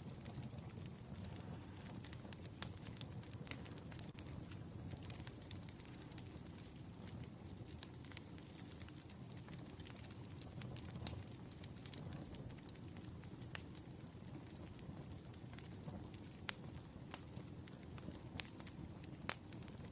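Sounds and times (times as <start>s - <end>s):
firewood crackling and popping: 0.0s - 19.9s
low rumble of flames: 0.0s - 19.9s.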